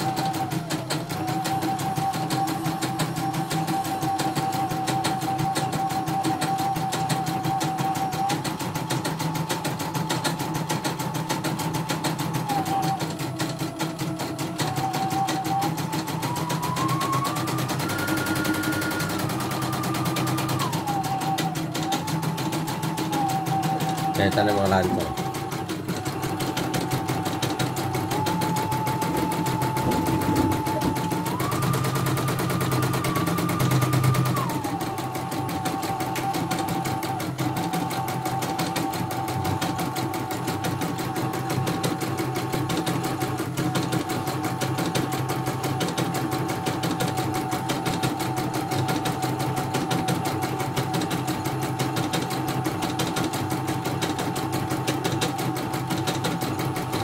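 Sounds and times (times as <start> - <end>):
motor whine: 0.0 - 51.6.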